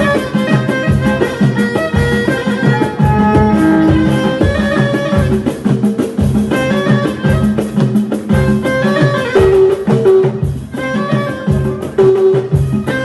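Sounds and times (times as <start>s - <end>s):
plucked string instruments: 0.0s - 13.0s
rhythmic drum beat: 0.0s - 13.0s.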